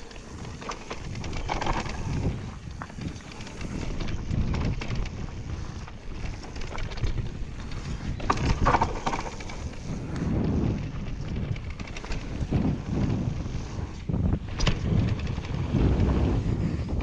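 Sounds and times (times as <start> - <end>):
tyres rumbling on dirt: 0.0 - 13.6
bike rattling and knocking: 0.0 - 17.0
wind buffeting microphone: 0.0 - 17.0.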